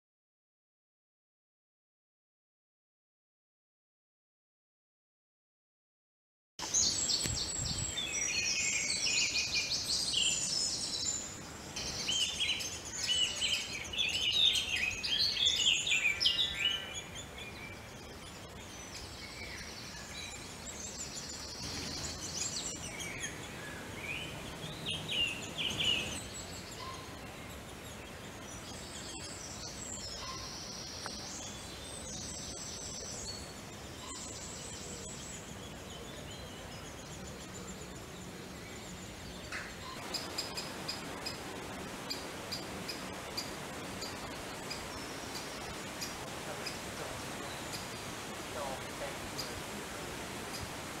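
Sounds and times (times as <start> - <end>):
background hiss: 6.6 - 51.0
small birds singing and chirping: 6.6 - 51.0.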